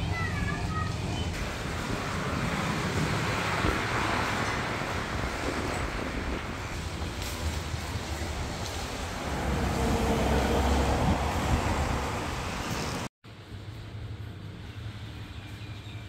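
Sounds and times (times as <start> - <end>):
steady outdoor rumble: 0.0 - 16.0.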